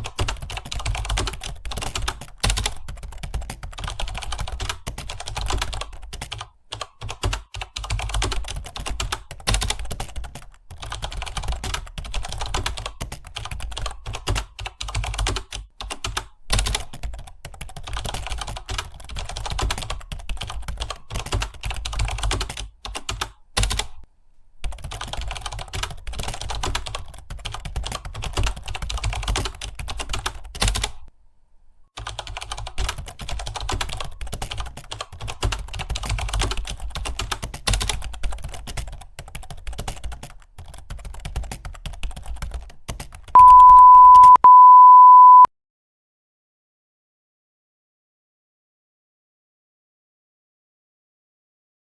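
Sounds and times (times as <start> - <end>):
typing on computer keyboard: 0.0 - 24.0, 24.6 - 31.1, 32.0 - 44.4.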